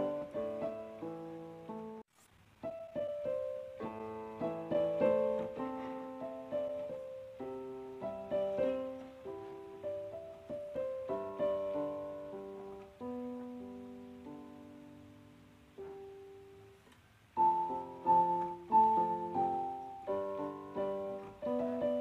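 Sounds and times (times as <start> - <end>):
gentle solo piano melody: 0.0 - 22.0.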